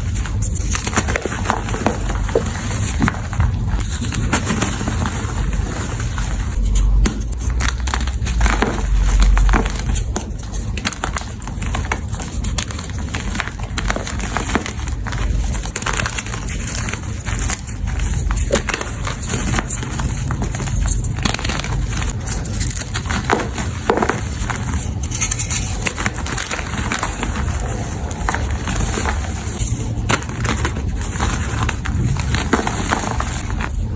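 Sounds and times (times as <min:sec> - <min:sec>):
chalk crunching and crackling: 0:00.0 - 0:33.9
deep low rumble: 0:00.0 - 0:33.9.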